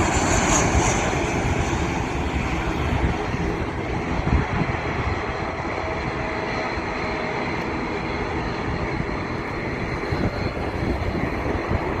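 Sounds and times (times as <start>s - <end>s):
jet engines rushing with whine: 0.0s - 12.0s.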